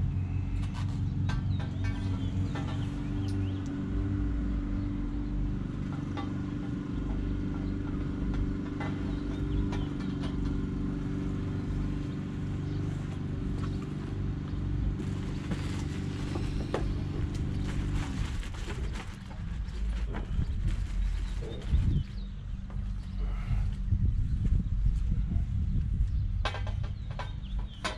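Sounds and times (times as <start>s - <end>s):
low mechanical hum: 0.0s - 27.9s.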